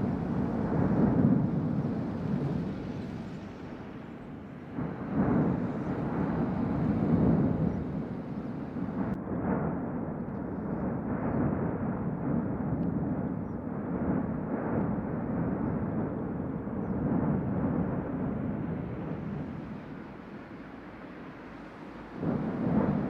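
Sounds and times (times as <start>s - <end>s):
volcano deep rumble: 0.0s - 23.0s.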